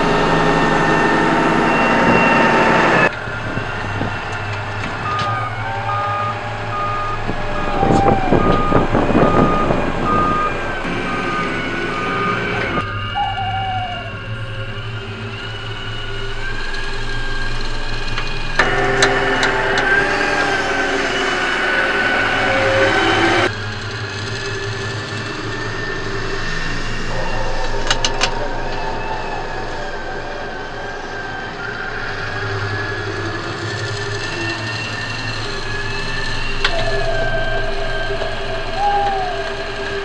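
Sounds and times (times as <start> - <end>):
toy electric motors whining: 3.0 - 40.0.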